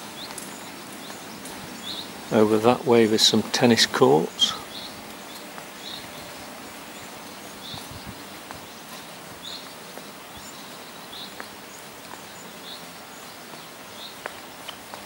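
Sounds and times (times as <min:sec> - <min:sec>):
bird chirping: 0:00.0 - 0:15.0
open-air background noise: 0:00.0 - 0:15.0.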